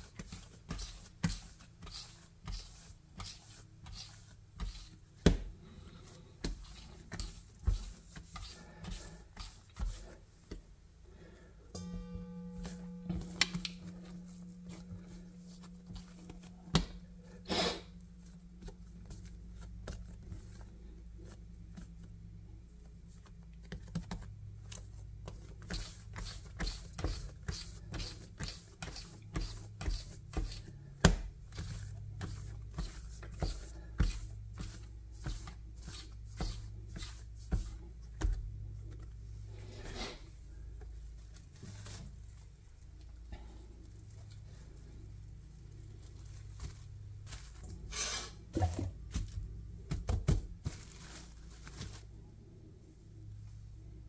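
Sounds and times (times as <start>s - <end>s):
hands patting dough: 0.0s - 52.4s
steady low hum: 0.0s - 54.0s.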